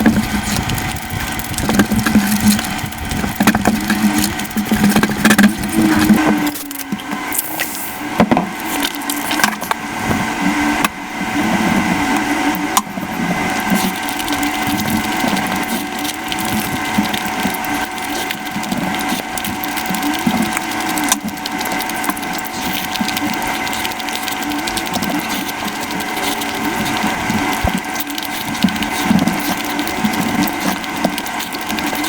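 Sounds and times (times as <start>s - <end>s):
sped up chewing sounds: 0.0s - 7.7s, 8.6s - 32.0s.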